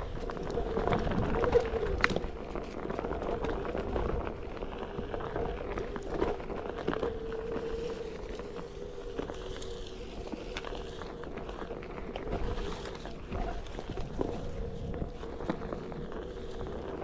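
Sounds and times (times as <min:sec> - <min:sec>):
tyre rolling over packed earth: 0:00.0 - 0:17.0
wind on microphone: 0:00.0 - 0:17.0.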